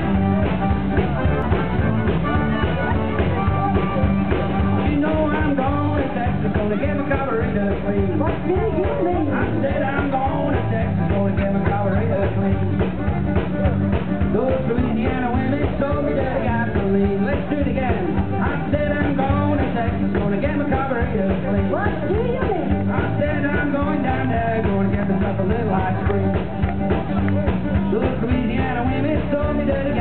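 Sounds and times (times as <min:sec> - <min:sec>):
band playing dance tune: 0:00.0 - 0:30.0
electric guitar: 0:00.0 - 0:30.0
fiddle: 0:00.0 - 0:30.0.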